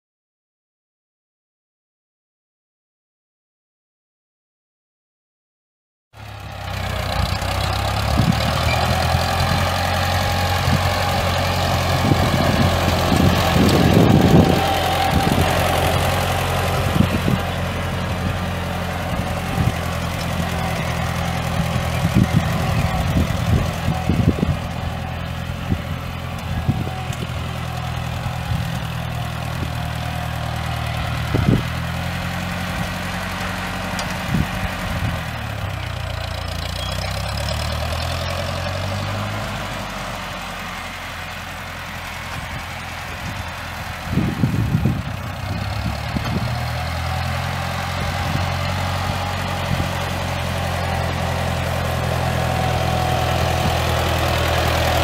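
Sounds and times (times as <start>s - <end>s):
tractor engine idling: 6.2s - 55.0s.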